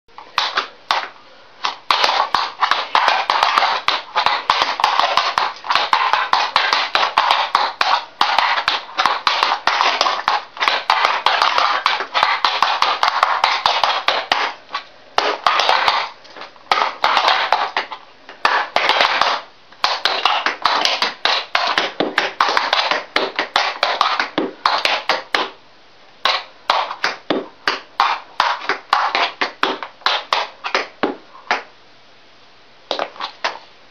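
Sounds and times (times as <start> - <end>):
tap shoes on tiled floor: 0.2 - 25.6, 26.2 - 31.7, 32.9 - 33.6.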